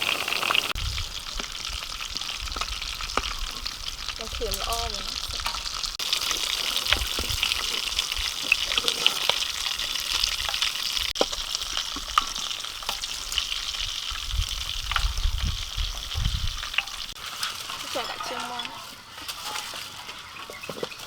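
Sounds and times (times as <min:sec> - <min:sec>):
food sizzling in hot oil: 0:00.0 - 0:20.7.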